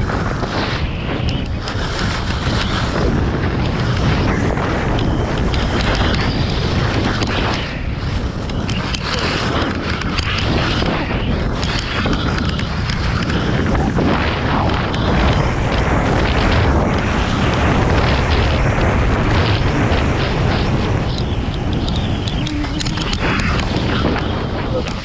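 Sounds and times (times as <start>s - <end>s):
skis scraping over snow: 0.0s - 25.0s
wind buffeting microphone: 0.0s - 25.0s.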